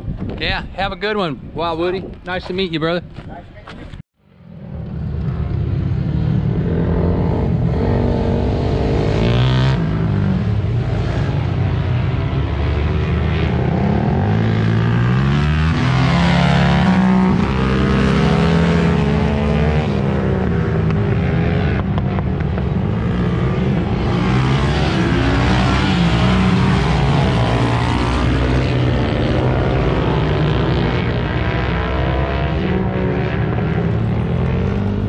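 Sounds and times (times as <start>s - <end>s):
motorcycle engines revving: 4.3s - 35.0s.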